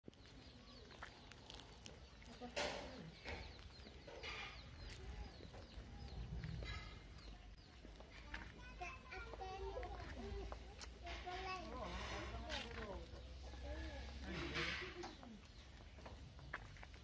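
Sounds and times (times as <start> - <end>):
bird calls: 0.1 - 17.0.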